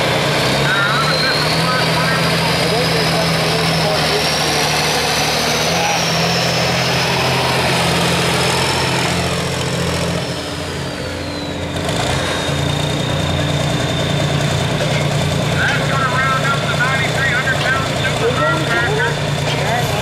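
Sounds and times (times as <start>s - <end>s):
diesel tractor engine running: 0.0s - 20.0s
high turbo whine: 0.0s - 20.0s.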